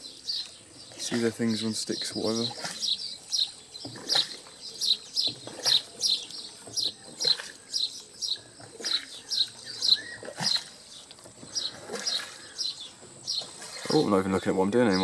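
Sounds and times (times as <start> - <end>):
small bird chirping: 0.0 - 14.2.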